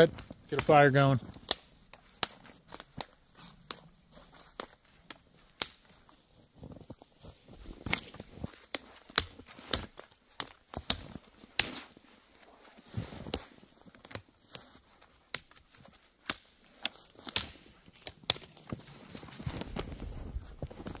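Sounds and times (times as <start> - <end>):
footsteps in snow: 0.0 - 21.0
twigs snapping: 0.1 - 6.2, 7.7 - 12.0, 13.3 - 20.0.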